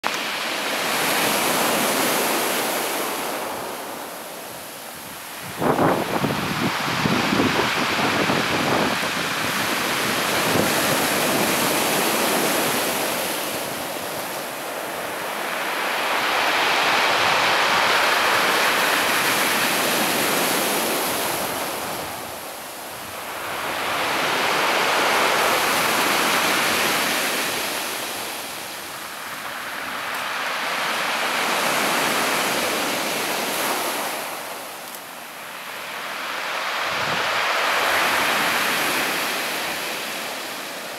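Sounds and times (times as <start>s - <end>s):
waves breaking on pebble beach: 0.1s - 40.9s.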